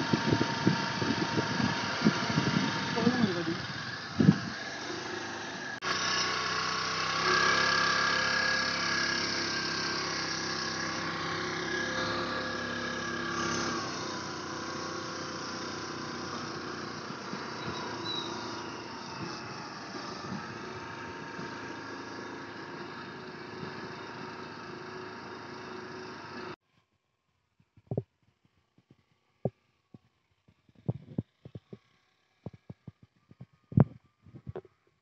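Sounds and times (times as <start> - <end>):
scooter engine running: 0.0 - 26.6, 27.9 - 34.8.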